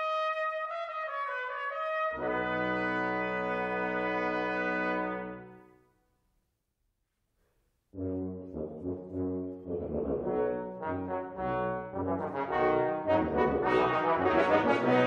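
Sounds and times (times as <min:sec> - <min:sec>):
brass ensemble playing: 0:00.0 - 0:05.6, 0:08.0 - 0:15.0
tuba low line: 0:00.0 - 0:05.7, 0:07.9 - 0:15.0.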